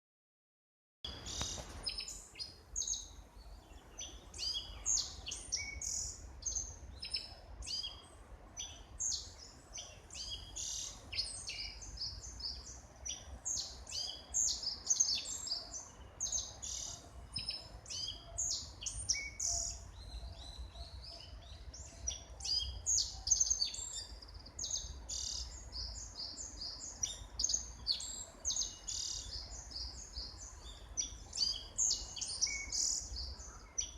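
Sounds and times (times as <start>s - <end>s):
wild birds chirping and singing: 1.1s - 33.9s.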